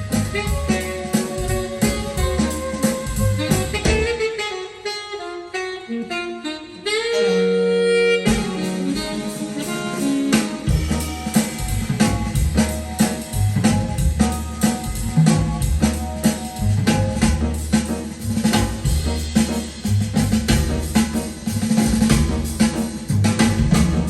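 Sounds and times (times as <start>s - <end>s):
big band jazz over loudspeakers: 0.0s - 24.0s.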